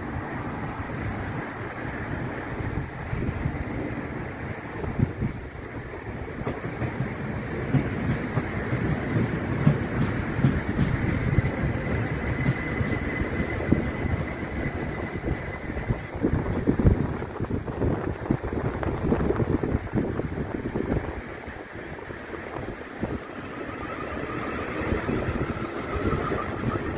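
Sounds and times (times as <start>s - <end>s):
train wheels rumbling over track: 0.0s - 26.9s.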